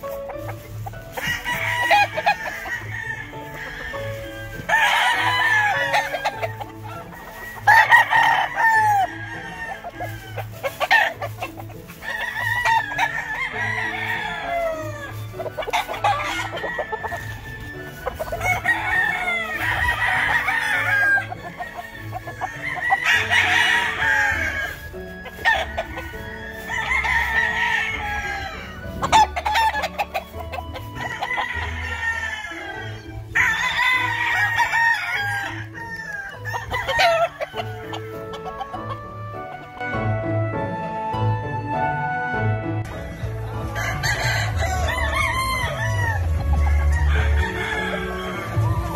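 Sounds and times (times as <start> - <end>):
music with low beat: 0.0 - 48.9
roosters crowing: 0.0 - 48.9.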